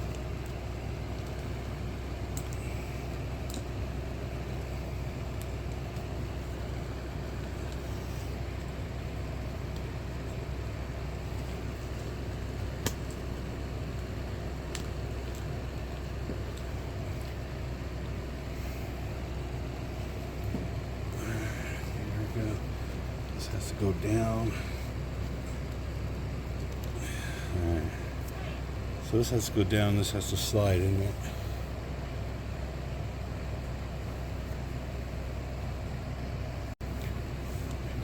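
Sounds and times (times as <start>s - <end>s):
low hum and rumble: 0.0s - 38.0s.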